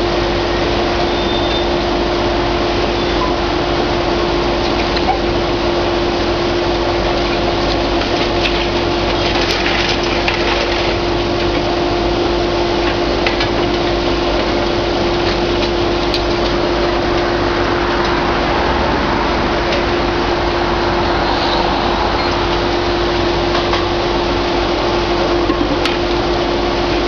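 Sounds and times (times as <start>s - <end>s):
excavator engine drone: 0.0s - 27.0s.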